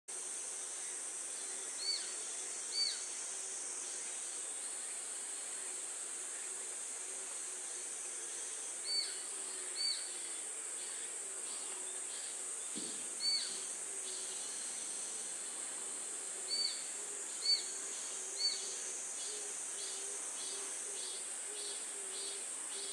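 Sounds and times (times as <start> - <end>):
high insect drone: 0.1 - 22.9.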